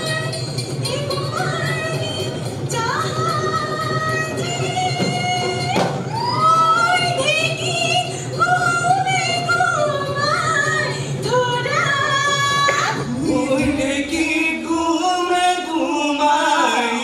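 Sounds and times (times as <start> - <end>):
girls singing: 2.8 - 17.0.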